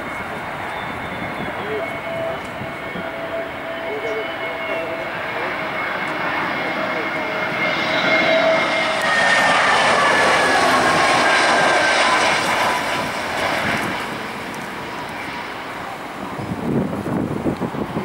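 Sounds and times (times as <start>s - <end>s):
jet airliner passing overhead: 0.0s - 18.0s.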